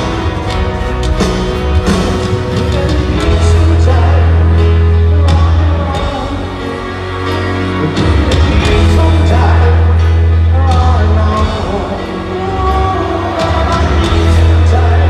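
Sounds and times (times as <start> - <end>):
heavy bass notes: 0.0 - 15.0
live rock ballad through arena speakers: 0.0 - 15.0
piano: 0.0 - 15.0.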